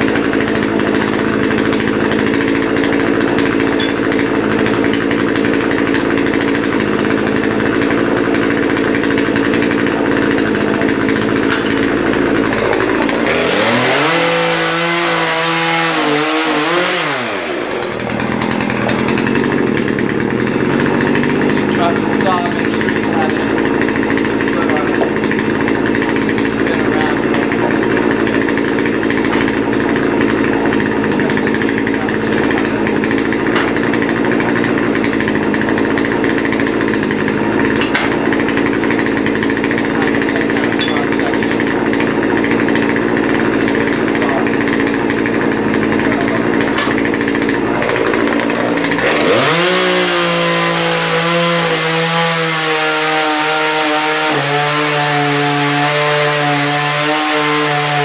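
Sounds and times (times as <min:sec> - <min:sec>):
chainsaw running and revving: 0:00.0 - 0:58.0.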